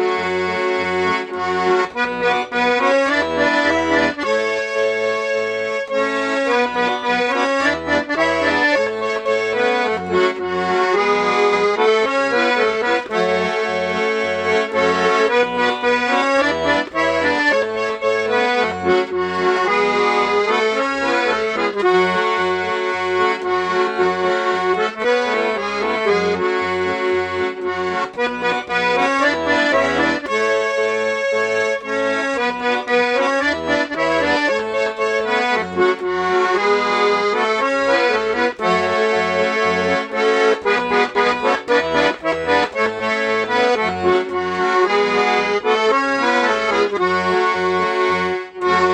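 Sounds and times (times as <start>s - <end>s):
button accordion playing lively tune: 0.0s - 48.9s.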